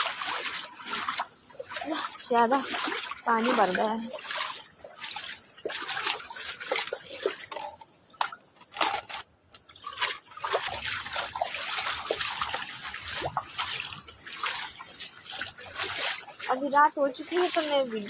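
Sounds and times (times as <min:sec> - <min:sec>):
water drops splashing: 0:00.0 - 0:08.8, 0:09.6 - 0:18.0.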